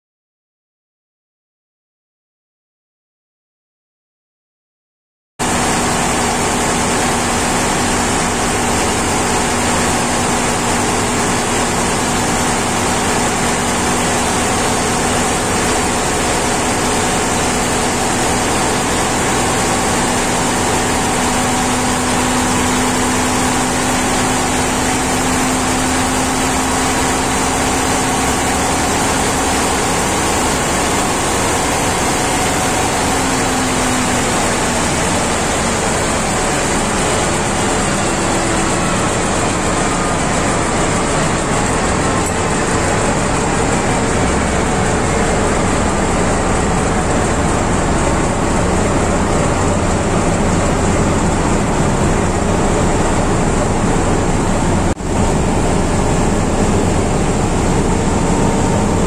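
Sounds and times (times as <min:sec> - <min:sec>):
diesel generator engine running: 0:05.4 - 0:59.0.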